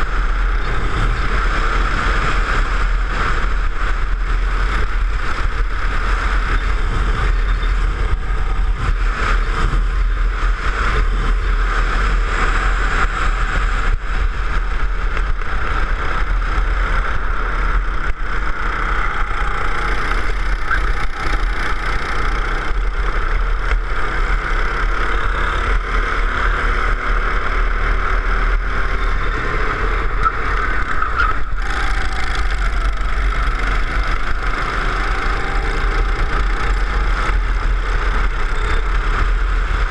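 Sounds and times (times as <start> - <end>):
go-kart engine drone: 0.0 - 39.9
second go-kart engine: 0.0 - 39.9.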